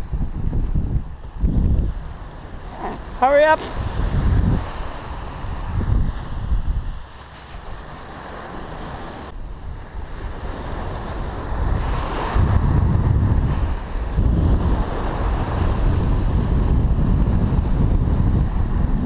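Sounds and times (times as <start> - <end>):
wind buffeting microphone: 0.0 - 19.0
small surf breaking on beach: 1.8 - 18.6.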